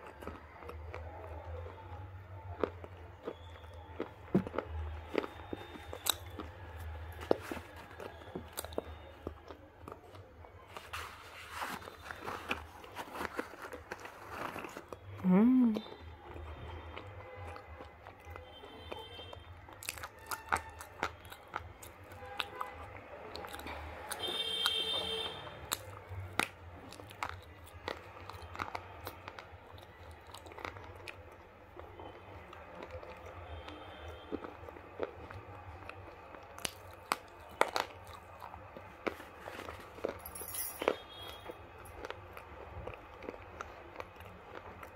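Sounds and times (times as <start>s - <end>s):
chewing: 0.0s - 44.9s
slate pencils crunching and cracking: 2.5s - 15.2s, 19.6s - 24.8s, 25.6s - 44.9s.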